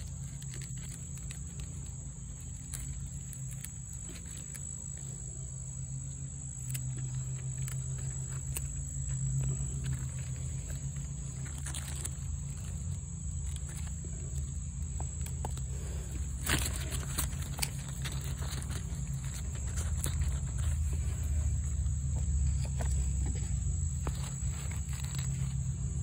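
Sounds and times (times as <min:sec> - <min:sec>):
leaves rustling and tapping: 0:00.0 - 0:26.0
steady low rumble: 0:00.0 - 0:26.0.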